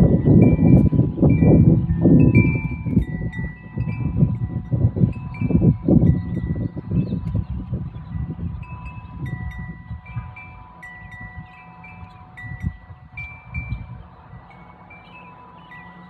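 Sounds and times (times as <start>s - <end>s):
wind chimes ringing: 0.0s - 16.0s
wind rumbling on microphone: 0.0s - 16.0s.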